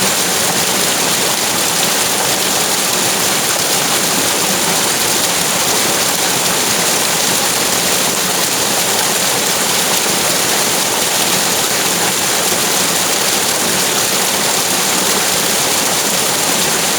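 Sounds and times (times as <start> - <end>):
running water rushing: 0.0 - 16.9.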